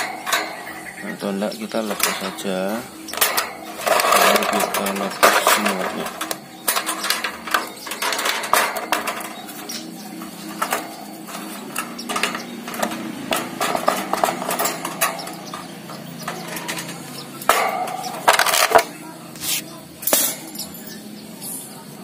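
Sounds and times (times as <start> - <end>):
metal cage bars rattling: 0.0 - 21.2.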